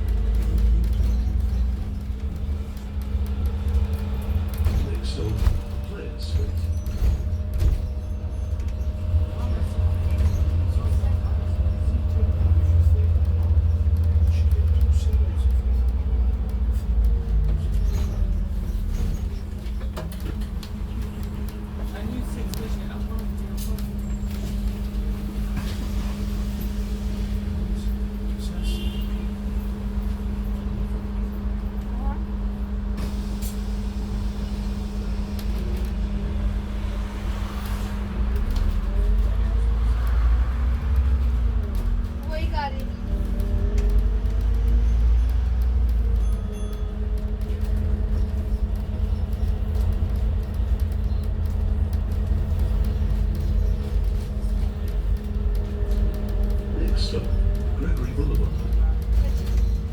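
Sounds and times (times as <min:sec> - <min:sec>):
bus engine hum: 0:00.0 - 0:59.9.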